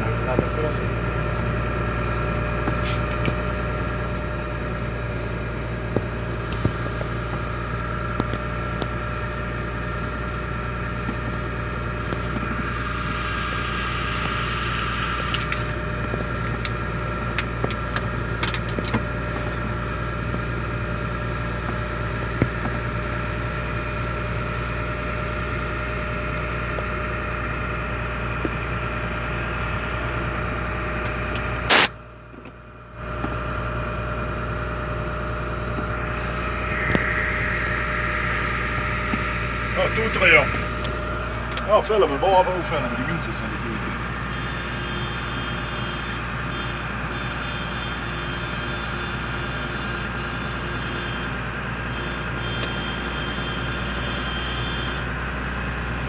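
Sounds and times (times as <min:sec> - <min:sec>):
road noise: 0:00.0 - 0:56.0
vehicle engine drone: 0:00.0 - 0:56.0.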